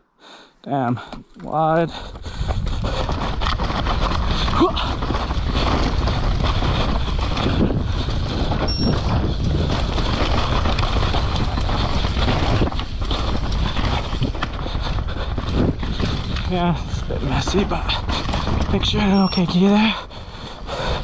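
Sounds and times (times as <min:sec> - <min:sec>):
bike tyre and rattle noise: 0:00.8 - 0:21.0
wind rushing on microphone: 0:01.8 - 0:21.0.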